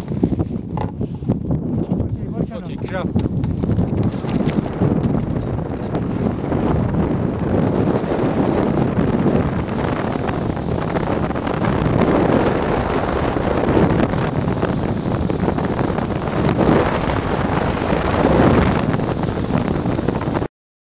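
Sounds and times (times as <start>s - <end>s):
wind rushing over microphone: 0.0s - 20.5s.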